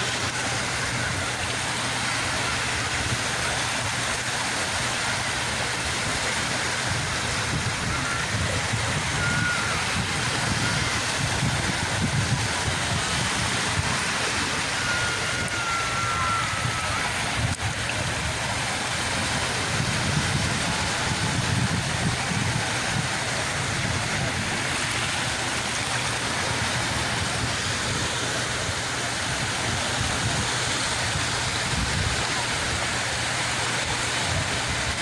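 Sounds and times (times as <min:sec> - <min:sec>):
sea waves rushing: 0:00.0 - 0:35.0.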